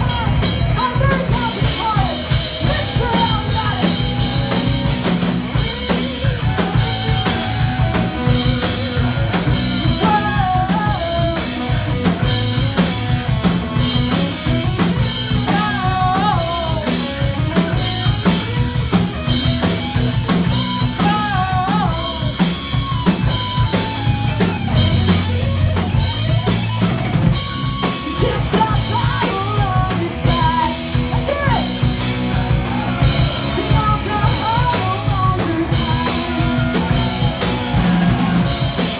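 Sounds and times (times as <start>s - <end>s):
metal band playing live: 0.0s - 38.9s
pounding drum kit: 0.0s - 38.9s.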